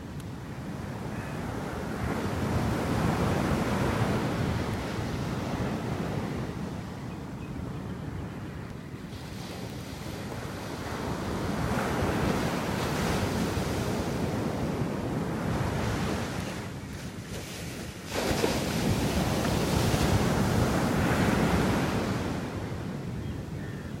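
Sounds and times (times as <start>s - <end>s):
small waves breaking on beach: 0.0s - 6.9s, 9.1s - 23.1s.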